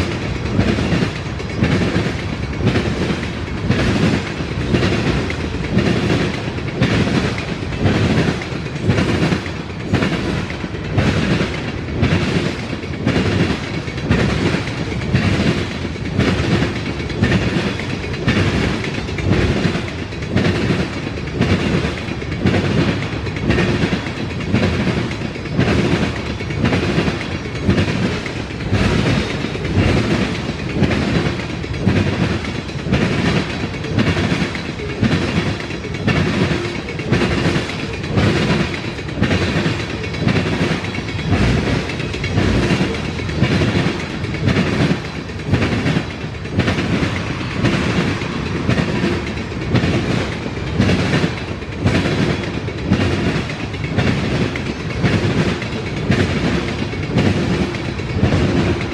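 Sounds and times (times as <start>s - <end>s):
train wheels clicking over rail joints: 0.0s - 58.9s.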